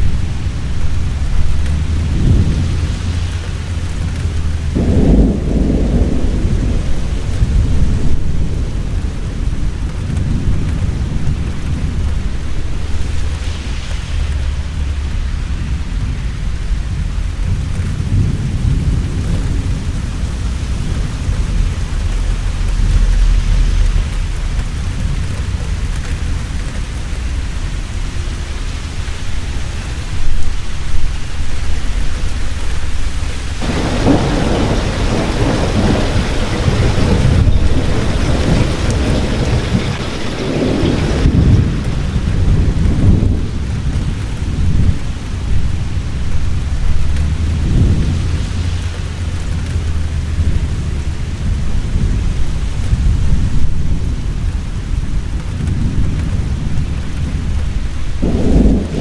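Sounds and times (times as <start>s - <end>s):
heavy rain falling: 0.0s - 59.0s
rumble of thunder: 0.0s - 59.0s.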